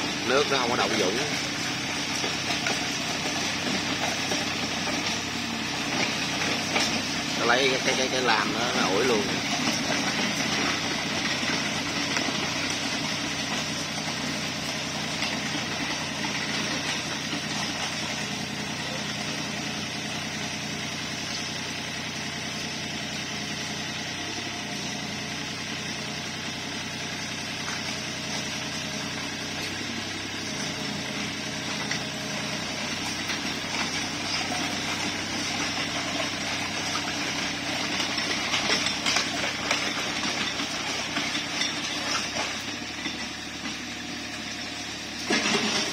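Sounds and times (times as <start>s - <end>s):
diesel excavator engine running: 0.0s - 45.9s.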